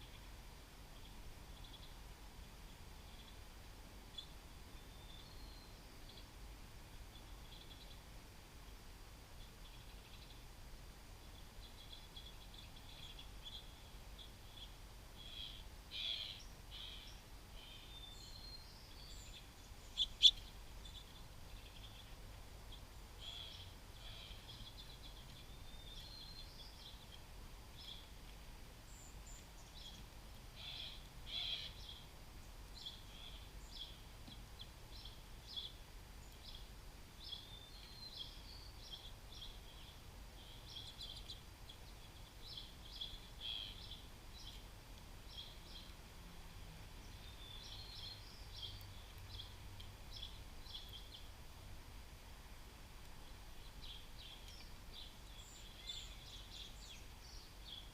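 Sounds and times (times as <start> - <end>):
small songbirds chirping: 0.0 - 57.9.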